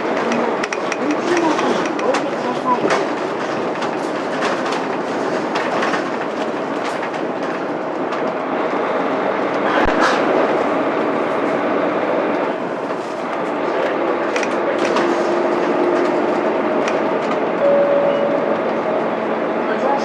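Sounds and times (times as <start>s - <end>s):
rattles and clicks in cabin: 0.0s - 11.6s, 12.2s - 20.0s
diesel bus engine running: 0.0s - 20.0s
road noise: 0.0s - 20.0s.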